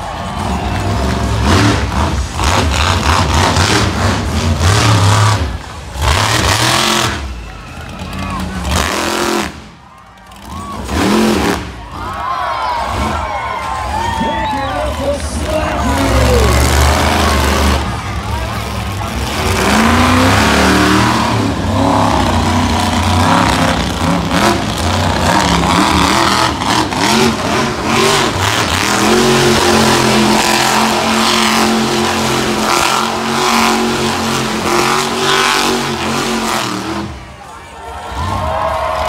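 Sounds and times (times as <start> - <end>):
truck engine revving hard: 0.0 - 39.0.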